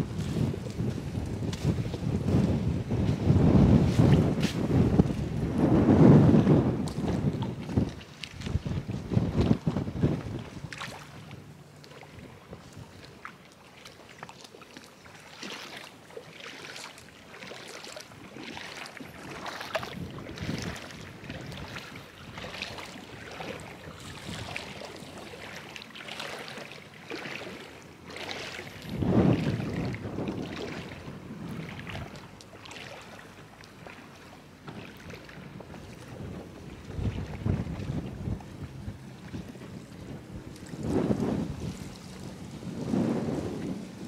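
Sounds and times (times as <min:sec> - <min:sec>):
wind on microphone: 0:00.0 - 0:13.3, 0:18.2 - 0:25.8, 0:27.4 - 0:33.2, 0:33.8 - 0:44.0
small waves lapping: 0:00.0 - 0:44.0.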